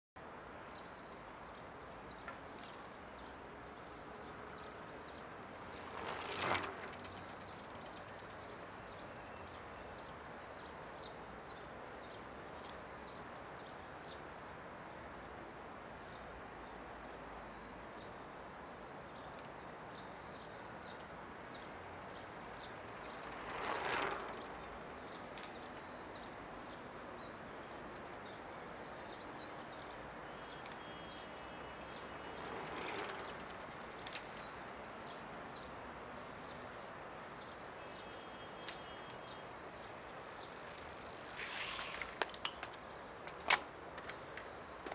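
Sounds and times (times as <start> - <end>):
outdoor background noise: 0.2 - 44.9
bicycle tyres on asphalt: 1.4 - 14.2, 20.0 - 27.5, 28.3 - 44.9.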